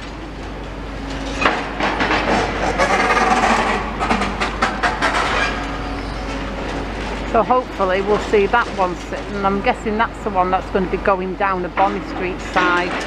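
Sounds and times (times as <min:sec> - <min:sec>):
machinery rumbling: 0:00.0 - 0:13.0.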